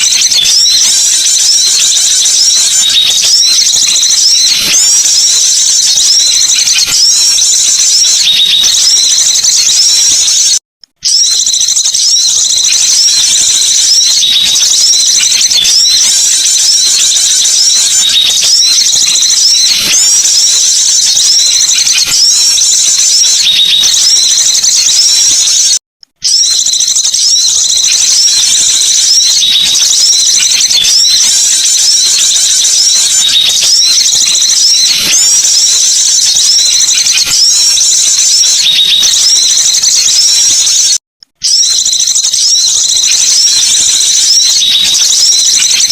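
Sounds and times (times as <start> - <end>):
small birds twittering: 0.0 - 45.9
small songbirds chirping: 0.0 - 45.9.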